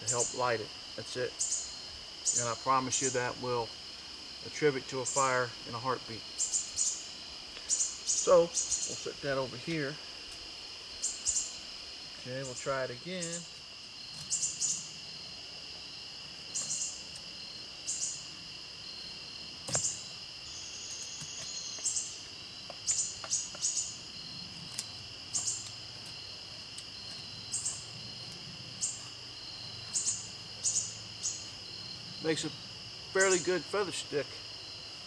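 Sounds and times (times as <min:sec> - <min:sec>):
crickets droning: 0:00.0 - 0:35.0.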